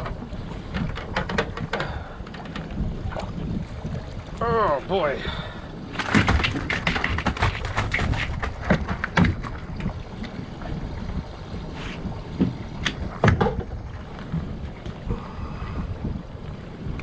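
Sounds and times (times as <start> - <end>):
knocks and thumps on a boat: 0.0 - 16.2
wind rumble on microphone: 0.0 - 17.0.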